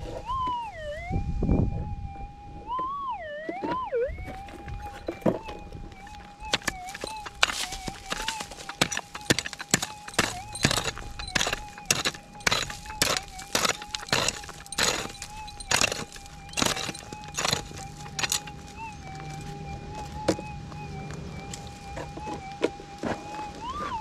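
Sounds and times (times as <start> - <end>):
footsteps on stony ground: 3.4 - 24.0
metal detector threshold tone: 3.6 - 24.0.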